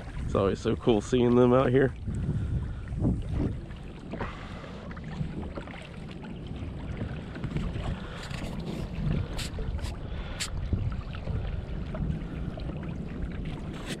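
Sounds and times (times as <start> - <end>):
water splashing against hull: 0.0 - 14.0
wind noise on microphone: 0.0 - 14.0.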